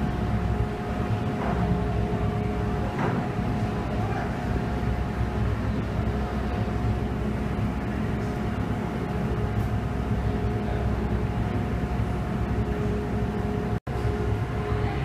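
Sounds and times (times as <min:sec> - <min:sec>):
ferry engines rumbling: 0:00.0 - 0:15.0.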